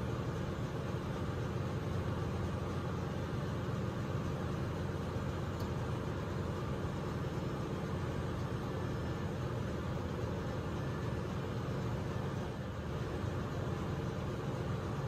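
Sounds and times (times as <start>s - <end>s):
engine room machinery drone: 0.0s - 15.0s.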